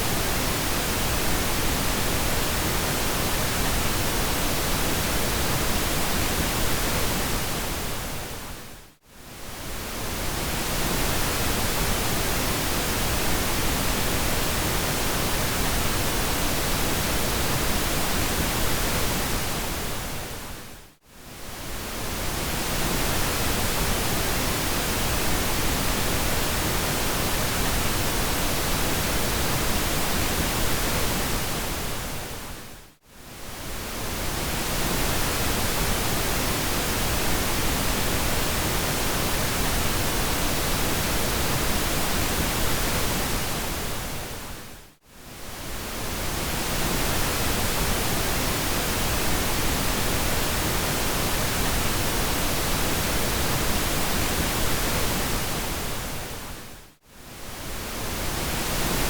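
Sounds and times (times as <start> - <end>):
pink noise hiss: 9.2 - 59.0.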